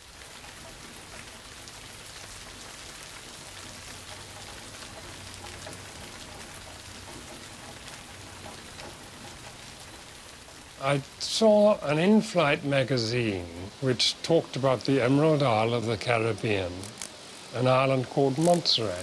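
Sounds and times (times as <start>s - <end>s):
rain falling on leaves: 0.0s - 19.0s.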